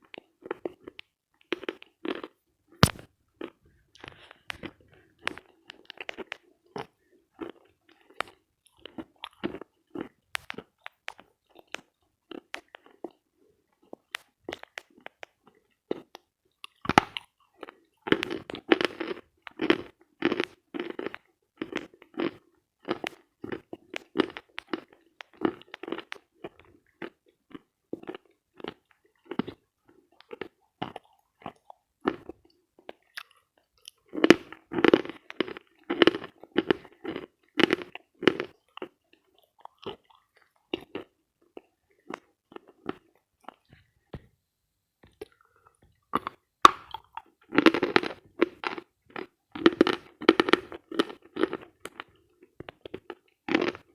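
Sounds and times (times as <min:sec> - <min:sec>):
chalk being chewed crunching: 0:00.0 - 0:43.8, 0:45.1 - 0:53.9.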